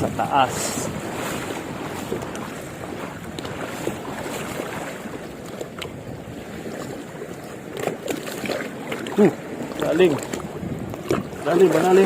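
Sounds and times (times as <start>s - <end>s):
sea waves: 0.0s - 12.0s
wind: 0.0s - 12.0s.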